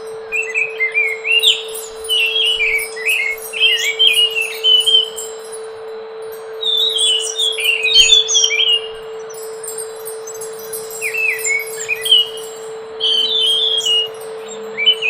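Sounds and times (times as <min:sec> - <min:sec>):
steady low hum: 0:00.0 - 0:15.0
thrush whistling song: 0:00.0 - 0:15.0.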